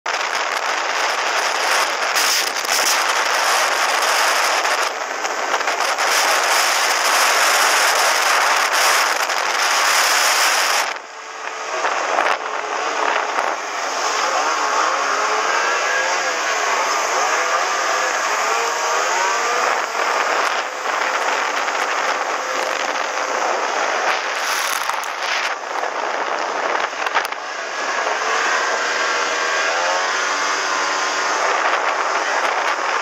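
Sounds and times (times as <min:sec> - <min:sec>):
snowmobile engines running: 0:00.1 - 0:33.0
wind noise on microphone: 0:00.1 - 0:33.0.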